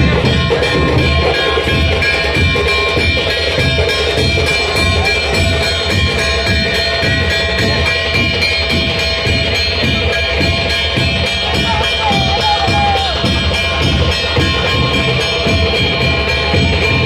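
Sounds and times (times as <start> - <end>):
music with drums and percussion: 0.0 - 17.0.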